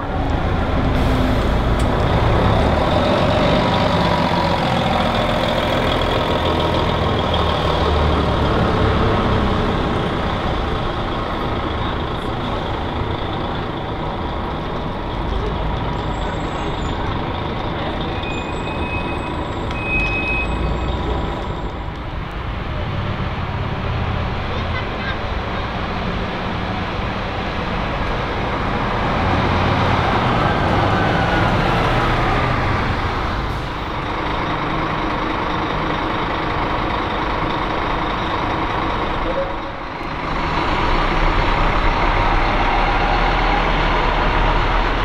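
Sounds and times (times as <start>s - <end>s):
bus diesel engine pulling away: 0.0s - 45.0s.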